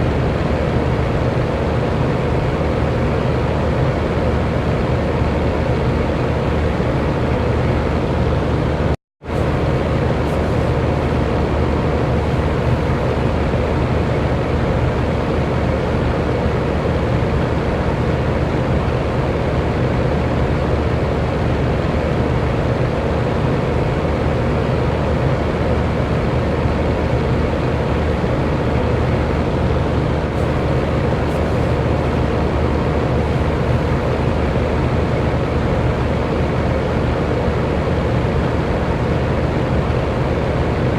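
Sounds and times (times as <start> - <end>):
electric fan whooshing: 0.0 - 40.9.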